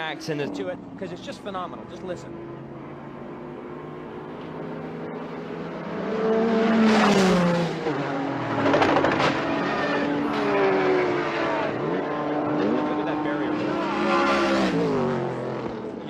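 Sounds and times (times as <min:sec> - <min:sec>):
race car engines passing by: 0:00.0 - 0:16.0.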